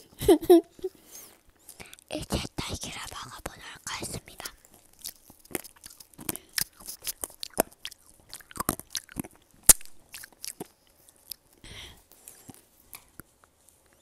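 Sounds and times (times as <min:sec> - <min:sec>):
crunching candied fruit: 0:01.6 - 0:13.3.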